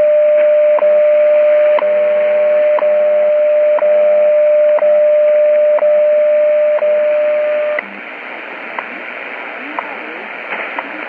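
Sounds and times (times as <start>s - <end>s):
shortwave static hiss: 0.0s - 3.8s, 4.4s - 11.0s
steady radio tone: 0.0s - 11.0s.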